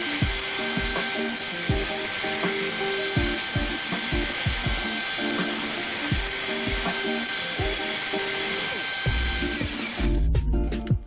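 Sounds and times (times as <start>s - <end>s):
band saw cutting wood: 0.0s - 10.3s
background music: 0.0s - 11.0s.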